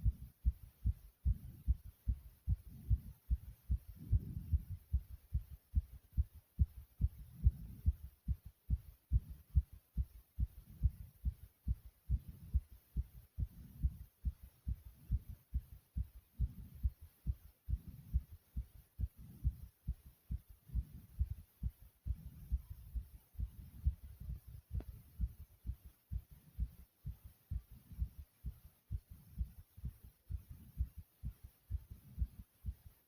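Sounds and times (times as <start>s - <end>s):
heartbeat thumps: 0.0s - 33.0s.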